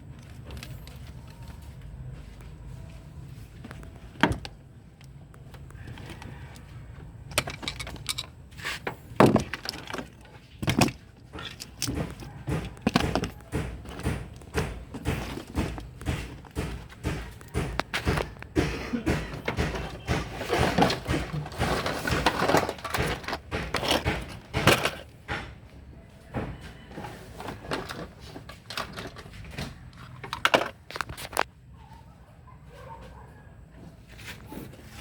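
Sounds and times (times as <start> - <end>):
objects clattering and knocking: 0.0 - 2.4, 3.6 - 31.5
rustling of handled things: 0.0 - 35.0.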